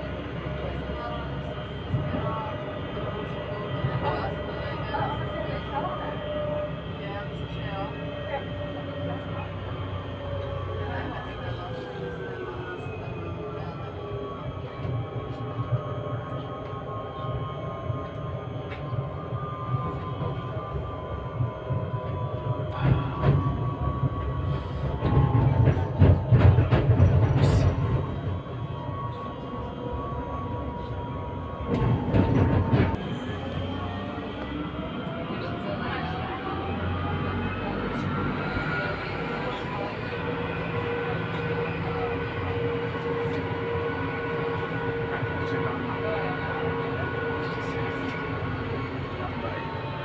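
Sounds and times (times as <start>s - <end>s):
tram running on rails: 0.0s - 50.0s.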